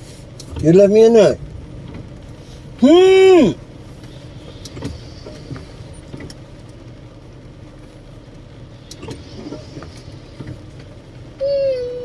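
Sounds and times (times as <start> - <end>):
car engine rumble inside cabin: 0.0 - 12.0
road noise: 0.0 - 12.0.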